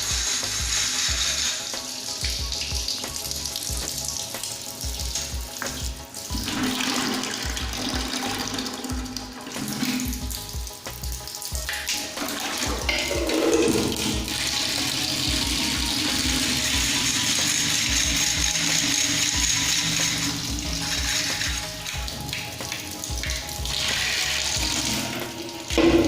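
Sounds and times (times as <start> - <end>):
background music with a beat: 0.0 - 26.0
water splashing: 0.0 - 26.0.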